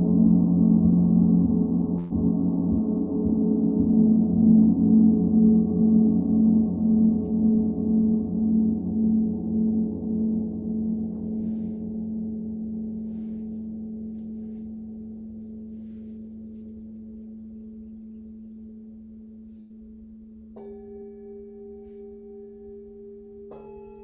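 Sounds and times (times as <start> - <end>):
higher-pitched singing bowl: 0.0 - 24.0
singing bowl low tone: 0.0 - 24.0.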